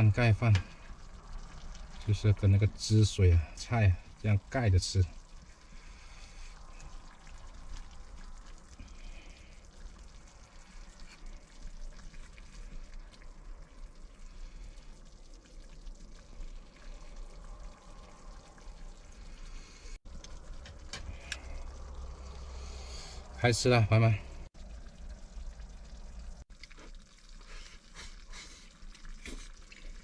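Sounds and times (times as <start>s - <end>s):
stew sizzling and bubbling: 0.0s - 30.0s.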